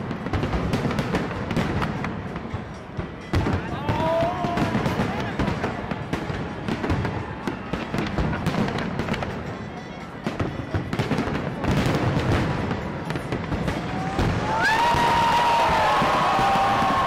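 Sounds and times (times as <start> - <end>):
fireworks popping: 0.0 - 17.0
music playing: 0.0 - 17.0.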